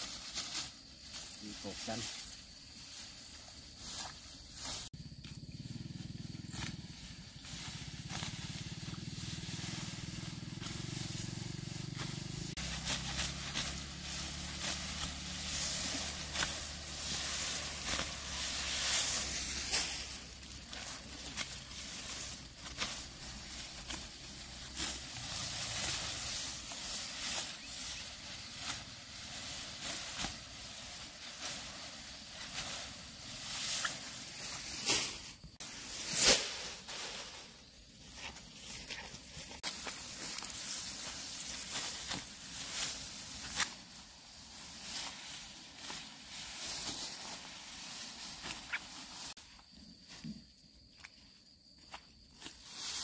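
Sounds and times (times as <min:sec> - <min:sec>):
dry grass rustling and snapping: 0:06.4 - 0:49.2.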